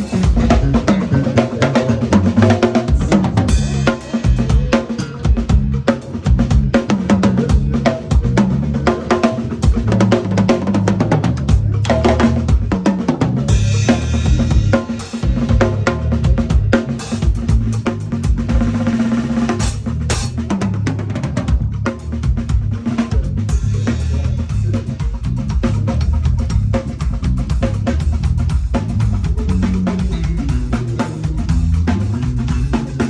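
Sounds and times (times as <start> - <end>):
drum kit playing fast: 0.0 - 33.0.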